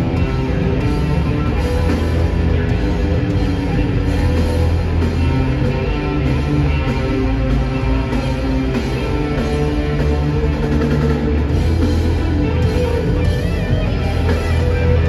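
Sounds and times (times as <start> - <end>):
drum kit: 0.0 - 15.0
electric guitar: 0.0 - 15.0
rock band playing live: 0.0 - 15.0.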